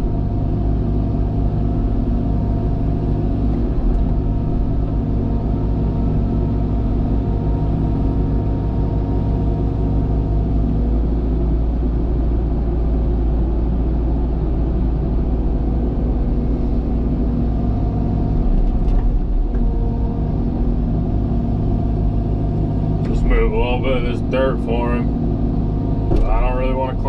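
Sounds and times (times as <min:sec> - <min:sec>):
heavy diesel engine rumbling: 0:00.0 - 0:27.0.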